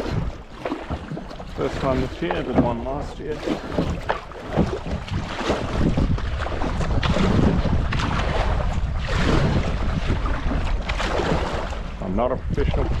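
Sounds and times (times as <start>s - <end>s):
water rushing and splashing: 0.0s - 13.0s
wind rumble on microphone: 0.0s - 13.0s.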